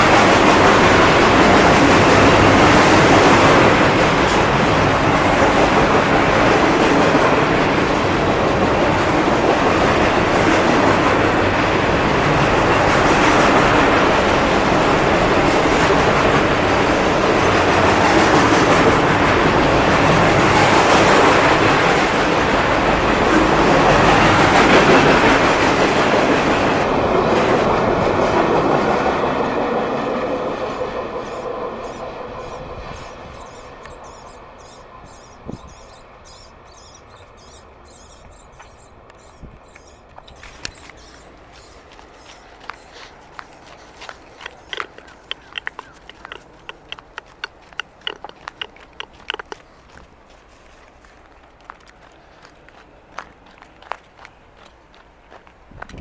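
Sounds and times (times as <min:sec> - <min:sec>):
clickety-clack over rail joints: 0:00.0 - 0:35.2, 0:38.2 - 0:56.0
train wheels rolling on rails: 0:00.0 - 0:56.0.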